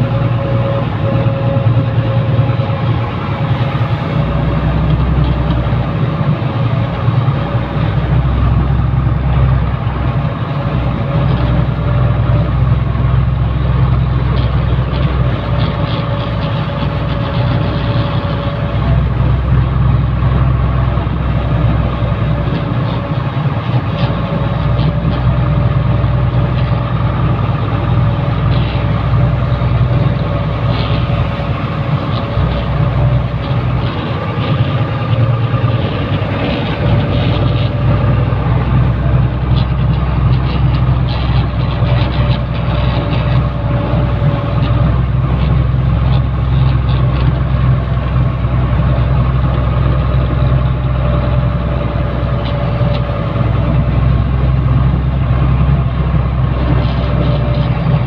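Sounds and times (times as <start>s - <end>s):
engine whine: 0.0s - 58.0s
truck engine rumbling: 0.0s - 58.0s.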